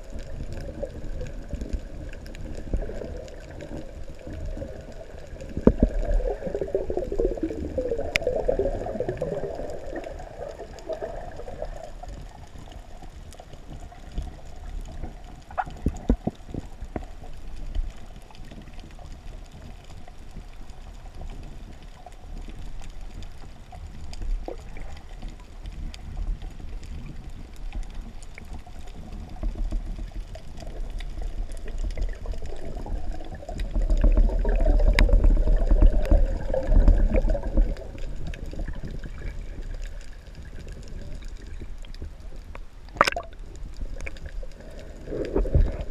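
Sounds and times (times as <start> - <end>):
faint clicks: 0.0 - 8.4, 9.0 - 45.9
underwater gurgling and sloshing: 0.0 - 45.9.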